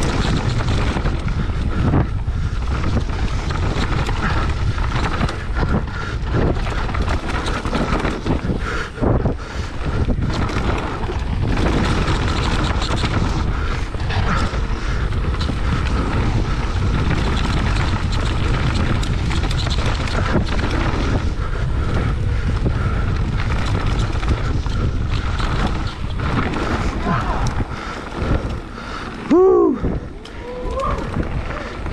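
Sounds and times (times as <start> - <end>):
bike knocking and rattling: 0.0 - 31.9
tyres rolling over dirt: 0.0 - 31.9
wind buffeting microphone: 0.0 - 31.9.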